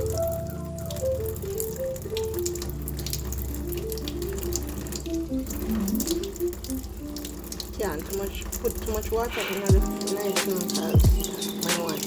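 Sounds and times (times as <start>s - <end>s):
light background music: 0.0s - 12.0s.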